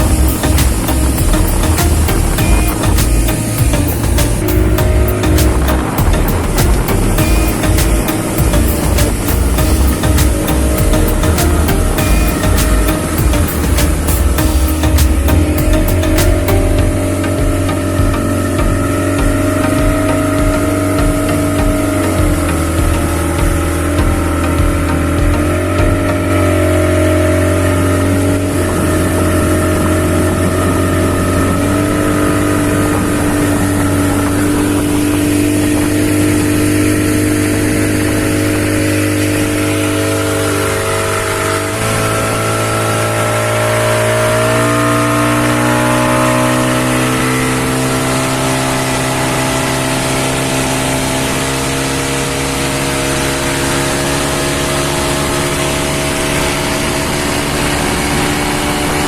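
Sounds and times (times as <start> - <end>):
speedboat engine running: 0.0 - 59.0.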